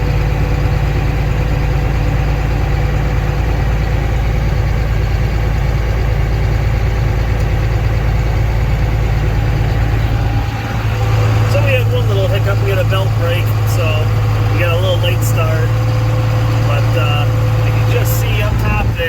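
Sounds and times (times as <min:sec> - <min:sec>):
heavy farm machine engine running: 0:00.0 - 0:19.0.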